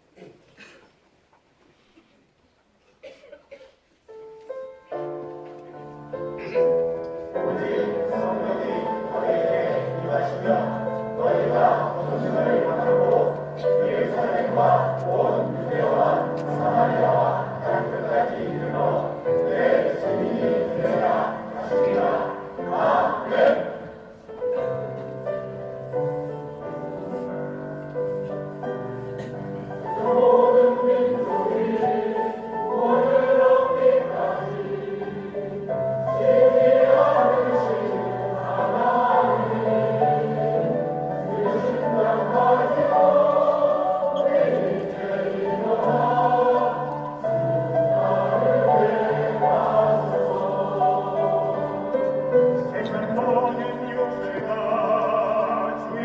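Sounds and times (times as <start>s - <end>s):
church choir singing a hymn: 6.6s - 56.0s.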